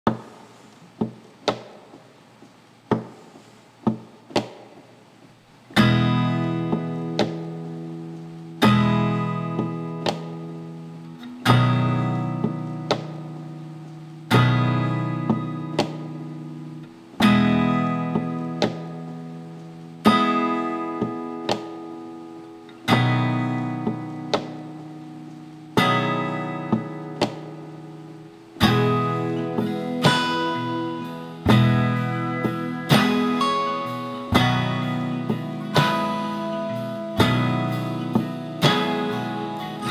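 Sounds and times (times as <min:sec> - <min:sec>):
acoustic guitar strumming: 0:05.5 - 0:39.9.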